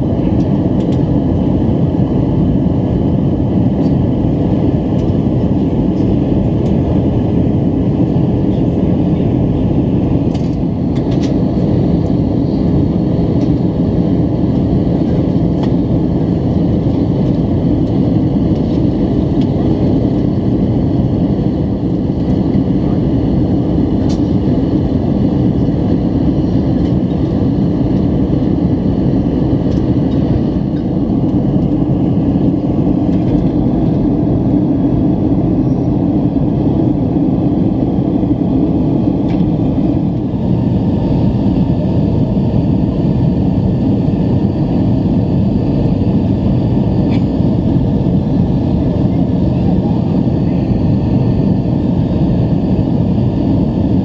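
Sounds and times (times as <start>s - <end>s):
airplane cabin airflow and engine: 0.0s - 54.0s.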